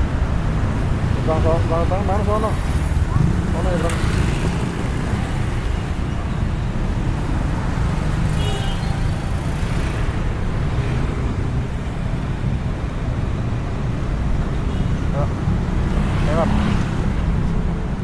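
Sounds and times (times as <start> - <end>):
road and traffic rumble: 0.0 - 18.0.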